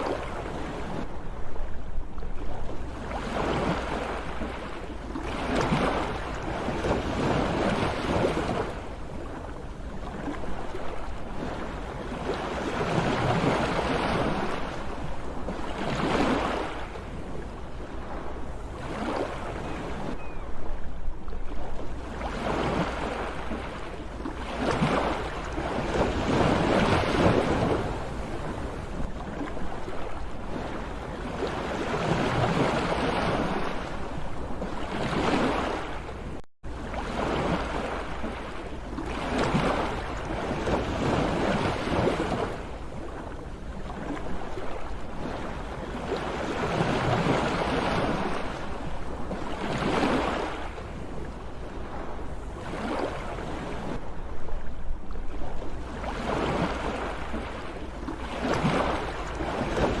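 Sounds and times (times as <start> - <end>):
sea waves breaking: 0.0 - 60.0.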